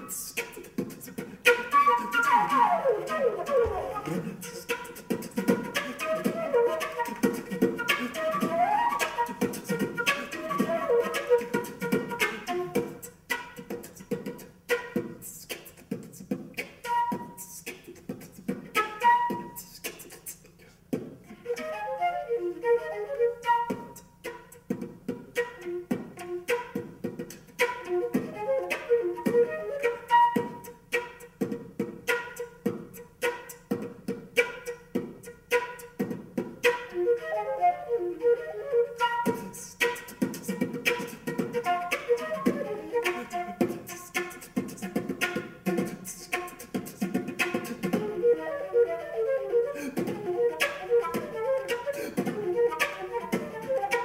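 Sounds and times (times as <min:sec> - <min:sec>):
flute melody: 0:00.0 - 0:15.5, 0:16.6 - 0:17.7, 0:18.5 - 0:19.9, 0:21.3 - 0:54.0
percussive beatbox hits into flute: 0:00.0 - 0:21.8, 0:23.4 - 0:37.2, 0:39.0 - 0:48.4, 0:49.7 - 0:54.0.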